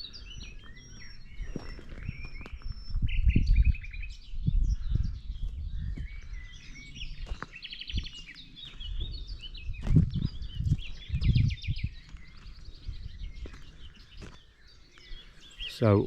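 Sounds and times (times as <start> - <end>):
wind on microphone: 0.0 - 14.3
songbirds singing: 0.0 - 16.0.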